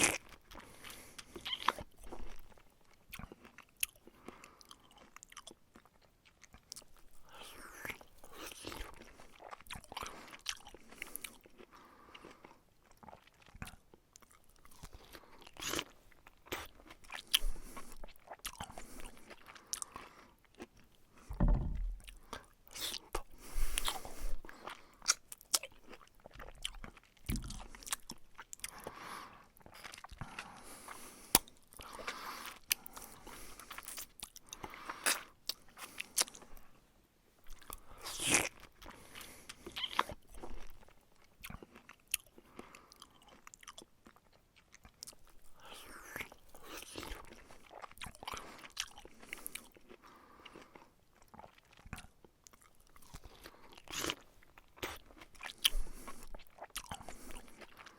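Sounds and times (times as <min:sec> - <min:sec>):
person chewing with crunches: 0:00.0 - 0:36.8, 0:37.4 - 0:57.9.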